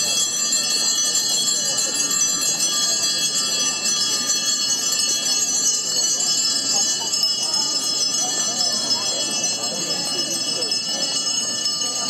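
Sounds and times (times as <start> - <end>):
hand bells ringing: 0.0 - 12.0.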